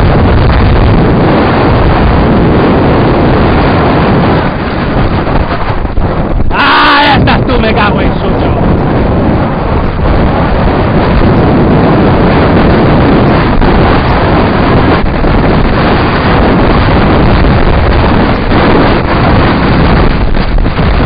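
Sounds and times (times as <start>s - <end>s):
tyres rumbling on dirt track: 0.0s - 21.0s
wind buffeting microphone: 0.0s - 21.0s.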